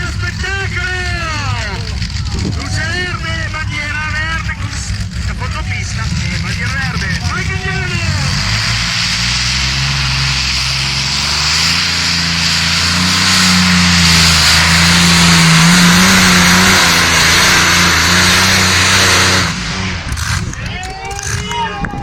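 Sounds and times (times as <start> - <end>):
tractor engine at full throttle: 0.0 - 22.0.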